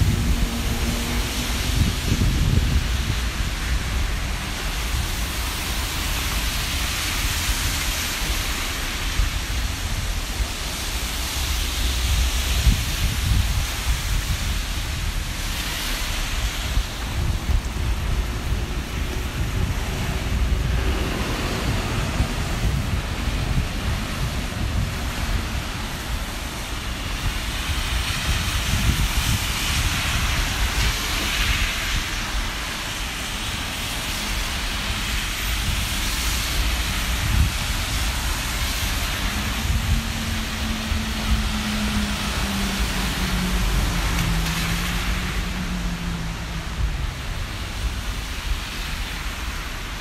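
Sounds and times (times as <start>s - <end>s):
traffic going by: 0.0s - 50.0s
wind buffeting microphone: 0.0s - 50.0s.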